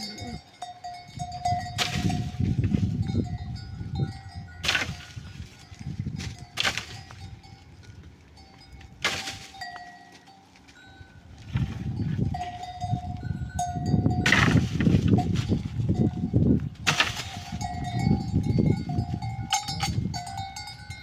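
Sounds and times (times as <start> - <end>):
neck bells clinking: 0.0 - 14.4, 17.3 - 21.0
rough rustling: 0.0 - 21.0.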